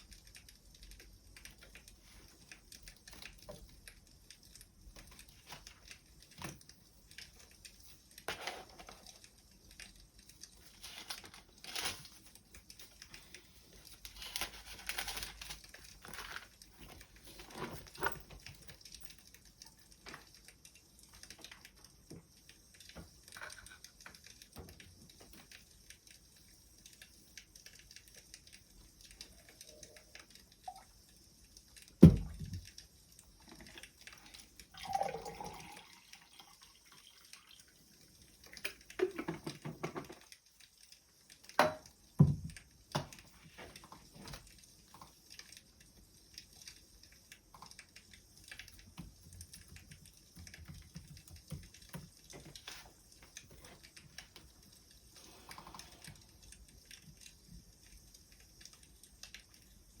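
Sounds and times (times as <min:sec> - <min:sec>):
wood fire crackling: 0:00.0 - 0:34.8, 0:40.2 - 1:00.0.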